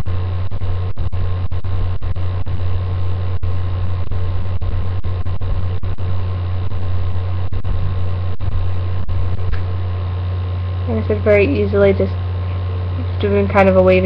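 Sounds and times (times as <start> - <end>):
low electrical hum with hiss: 0.0 - 14.0.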